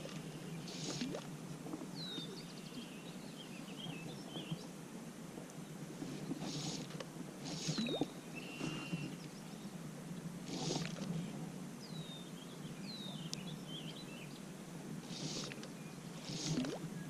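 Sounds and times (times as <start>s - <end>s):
birds chirping: 1.8s - 4.8s, 5.5s - 9.8s, 10.4s - 17.0s.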